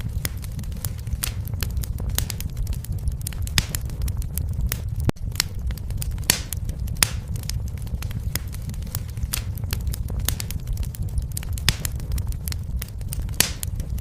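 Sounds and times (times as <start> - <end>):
fire crackling and popping: 0.0 - 14.0
low fire rumble: 0.0 - 14.0.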